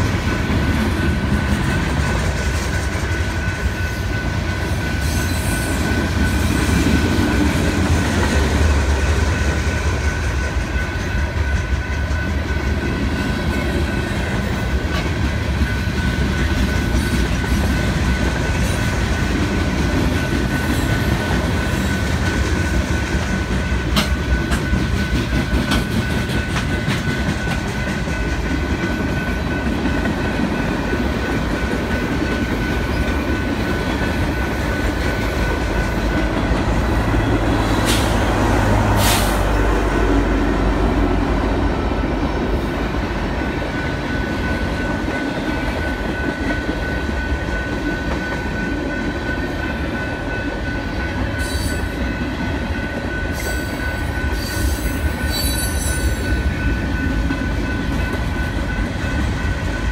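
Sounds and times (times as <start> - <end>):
crossing bell ringing: 0.0 - 59.9
diesel locomotive engine hum: 0.0 - 59.9
train wheels rumbling on rail: 0.0 - 59.9.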